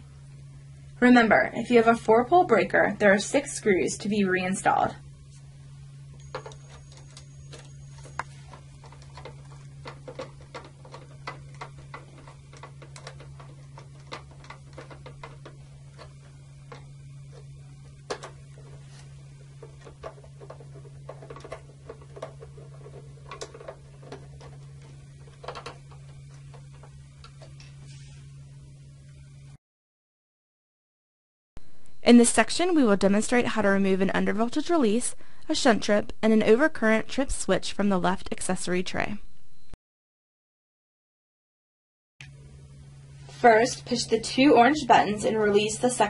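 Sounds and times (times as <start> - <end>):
steady low hum: 0.0 - 29.6, 31.6 - 39.8, 42.2 - 46.0.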